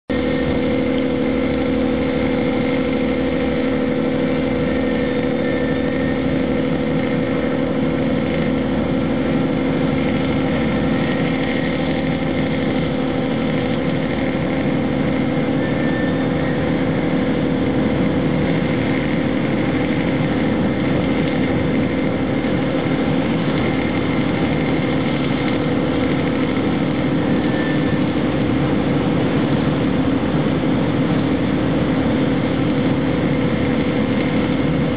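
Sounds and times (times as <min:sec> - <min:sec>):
engine droning steadily: 0:00.0 - 0:34.9.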